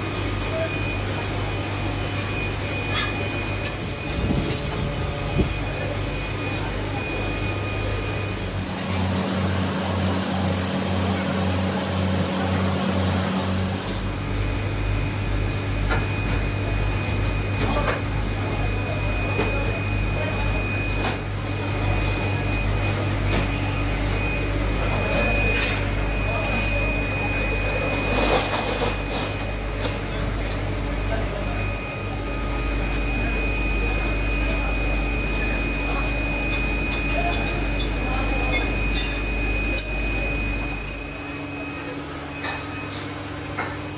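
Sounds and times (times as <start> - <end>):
foundry machinery drone: 0.0 - 43.9.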